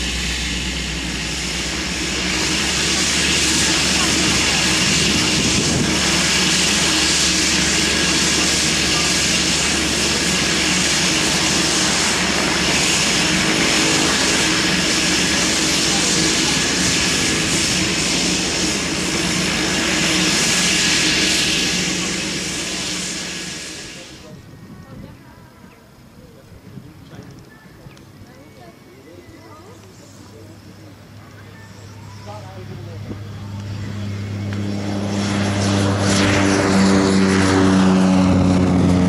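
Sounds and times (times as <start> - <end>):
turboprop engine running: 0.0 - 25.2, 29.8 - 39.0.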